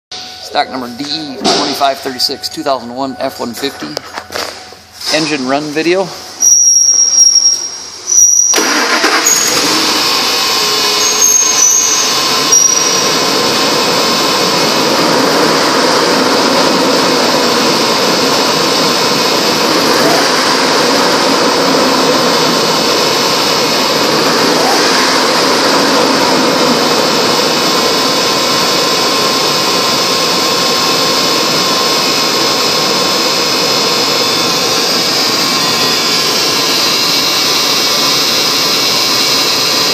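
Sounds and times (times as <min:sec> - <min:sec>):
truck engine starting and running: 0:00.1 - 0:39.9.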